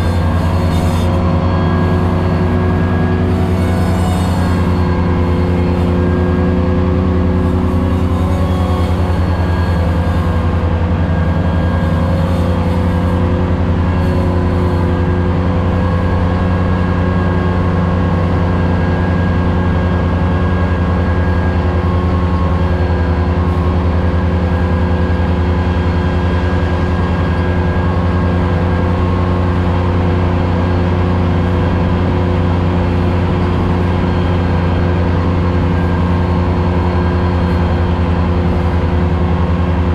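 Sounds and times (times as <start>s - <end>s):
tractor engine hum: 0.0s - 39.9s.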